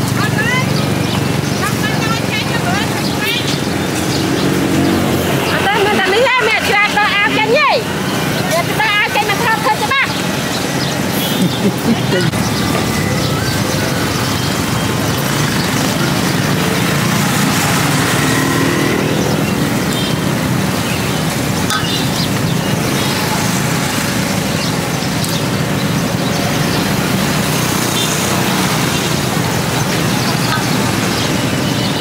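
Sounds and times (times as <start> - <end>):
faint voices and chatter: 0.0 - 32.0
traffic and motorbikes passing: 0.0 - 32.0.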